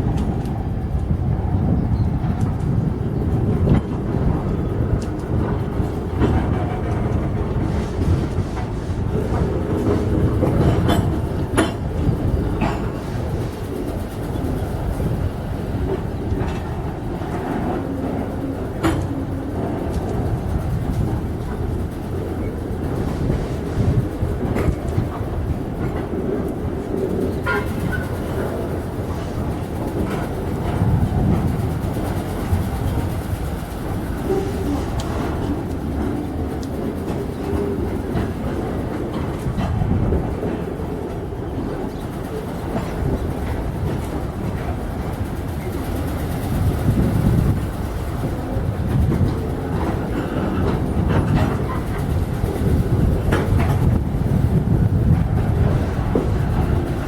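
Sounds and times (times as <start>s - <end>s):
train wagons rumbling past: 0.0s - 57.0s
wheels clattering on rails: 0.0s - 57.0s.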